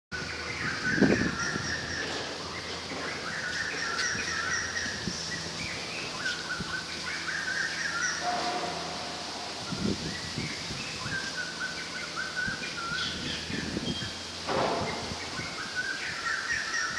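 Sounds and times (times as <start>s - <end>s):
low wind and rustling: 0.1s - 16.9s
small birds chirping: 0.1s - 16.9s.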